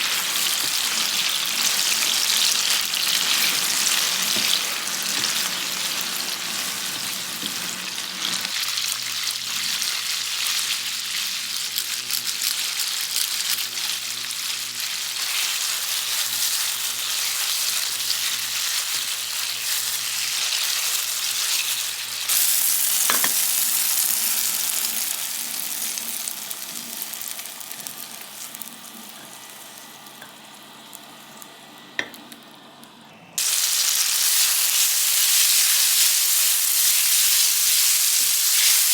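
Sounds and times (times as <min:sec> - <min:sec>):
food sizzling in a pan: 0:00.0 - 0:32.2, 0:33.4 - 0:38.9.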